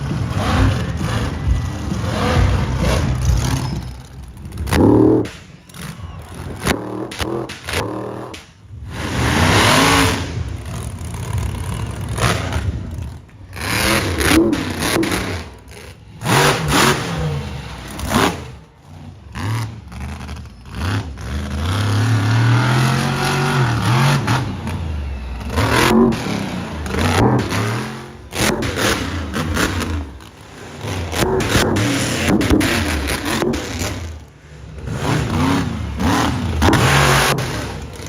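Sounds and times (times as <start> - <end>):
monster truck engines revving: 0.0 - 38.0.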